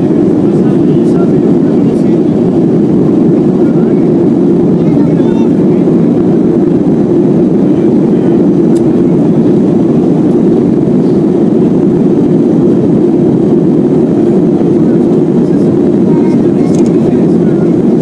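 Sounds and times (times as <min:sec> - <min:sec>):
airplane cabin engine roar: 0:00.0 - 0:18.0.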